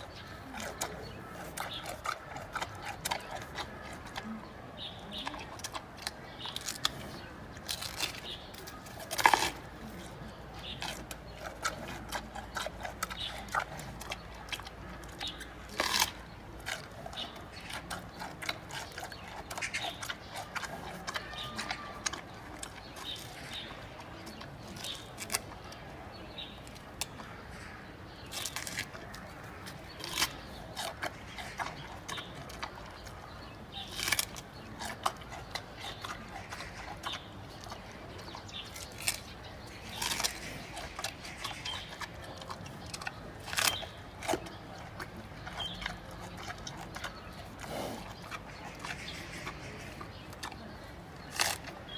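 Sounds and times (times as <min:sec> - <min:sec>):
panda chewing bamboo: 0:00.0 - 0:51.9.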